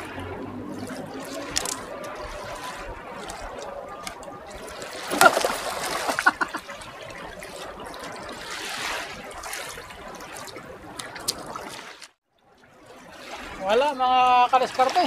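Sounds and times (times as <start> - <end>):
man wading splashing: 0.0 - 15.0
small waves lapping on sand: 0.0 - 15.0.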